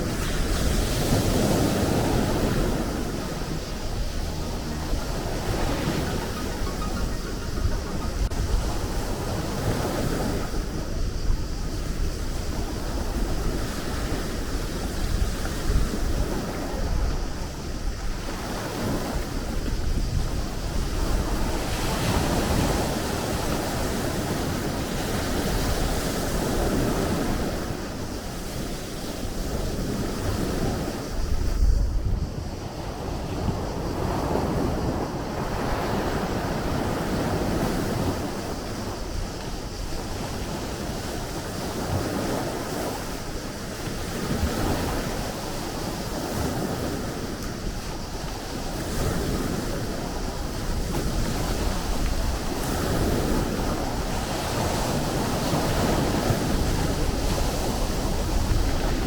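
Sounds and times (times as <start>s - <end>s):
sea waves washing in: 0.0s - 59.0s
wind rumbling on microphone: 0.0s - 59.0s.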